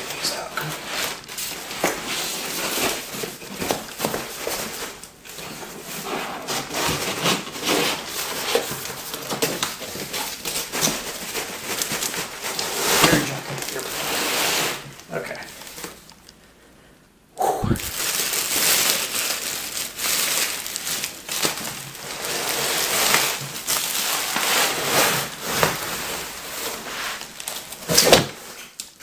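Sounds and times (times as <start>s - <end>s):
plastic wrapping crinkling: 0.0s - 16.4s, 17.8s - 29.0s.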